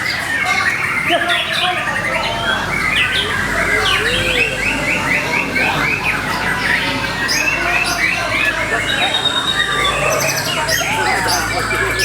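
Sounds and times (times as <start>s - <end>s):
songbird singing fast song: 0.0s - 12.0s.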